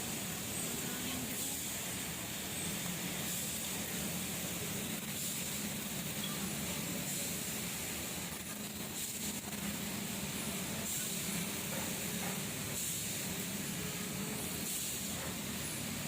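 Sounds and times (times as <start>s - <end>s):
constant hiss: 0.0s - 16.0s.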